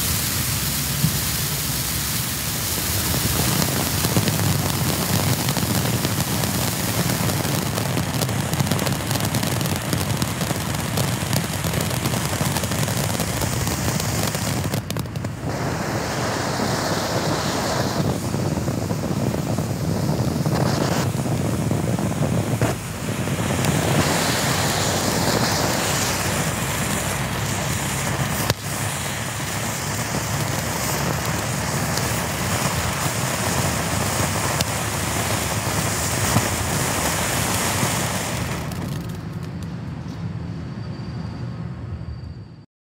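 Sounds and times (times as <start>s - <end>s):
fountain firework hissing: 0.0s - 39.8s.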